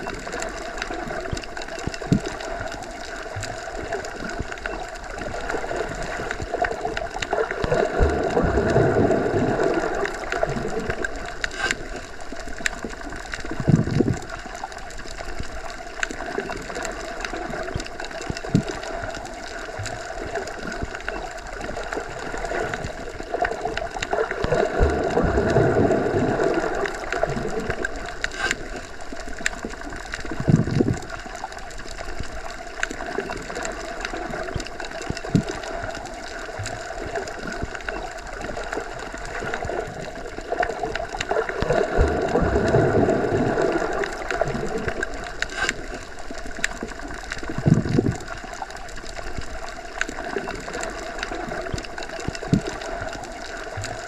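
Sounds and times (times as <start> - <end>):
faint ticks: 0.0 - 8.8, 9.5 - 25.8, 26.5 - 42.8, 43.5 - 54.0
muffled underwater rush: 0.0 - 54.0.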